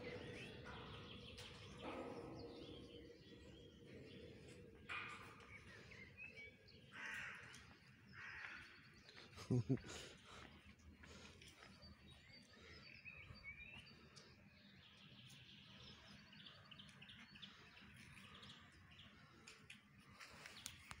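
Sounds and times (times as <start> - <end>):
faint birds chirping: 0.0 - 21.0
outdoor background noise: 0.0 - 21.0.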